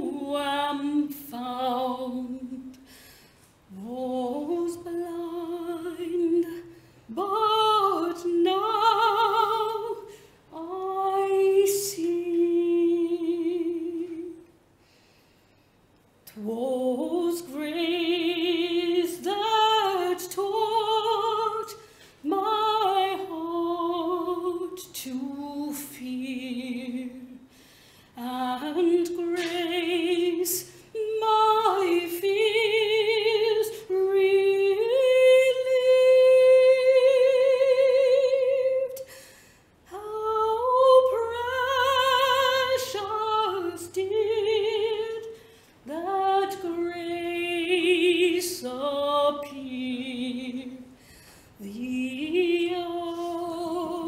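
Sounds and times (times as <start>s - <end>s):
woman singing slowly: 0.0s - 2.9s, 3.7s - 14.6s, 16.2s - 27.5s, 28.2s - 39.1s, 39.9s - 51.0s, 51.6s - 54.0s.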